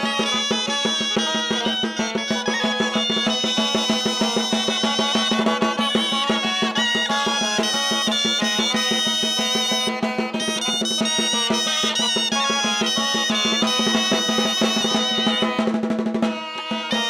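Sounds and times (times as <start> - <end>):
folk band playing lively tune: 0.0 - 17.0
steady drum beat: 0.0 - 17.0.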